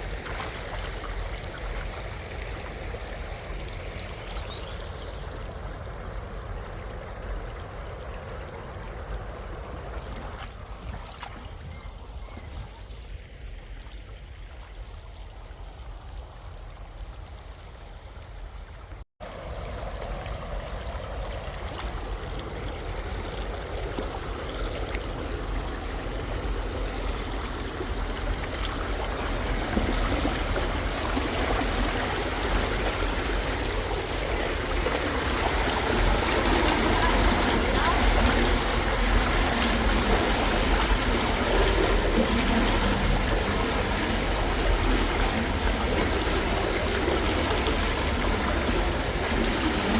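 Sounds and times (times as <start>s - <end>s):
stream water rushing: 0.0s - 16.6s, 18.6s - 49.9s.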